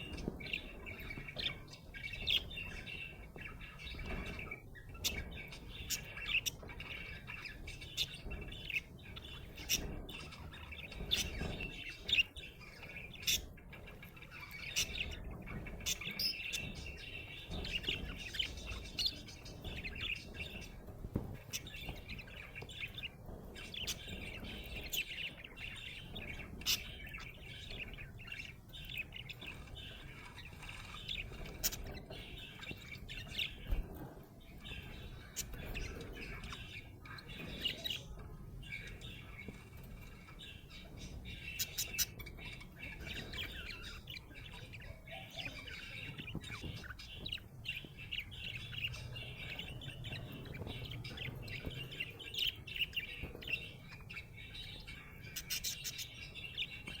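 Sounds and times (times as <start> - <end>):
budgerigar chirping and chattering: 0.0 - 57.0.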